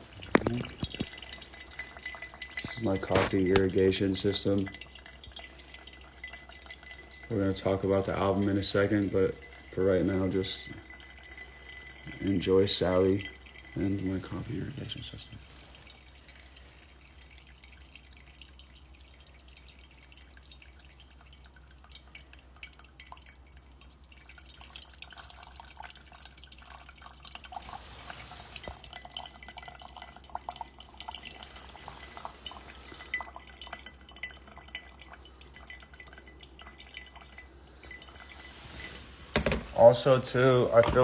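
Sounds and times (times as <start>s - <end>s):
coffee dripping: 0.0s - 41.0s.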